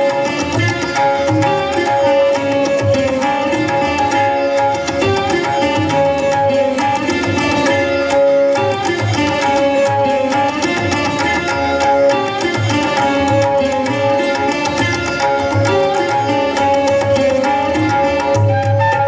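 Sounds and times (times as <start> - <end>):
tabla playing a rhythm: 0.0 - 19.0.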